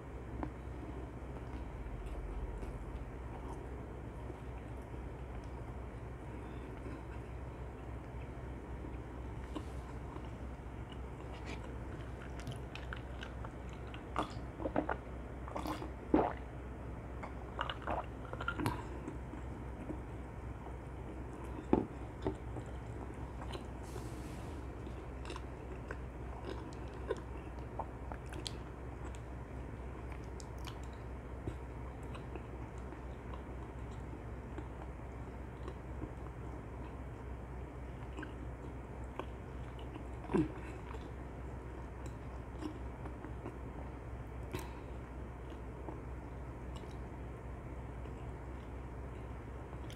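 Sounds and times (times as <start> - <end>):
steady low hum: 0.0 - 49.9
chewing crunchy fried chicken: 0.4 - 24.0, 24.7 - 49.9.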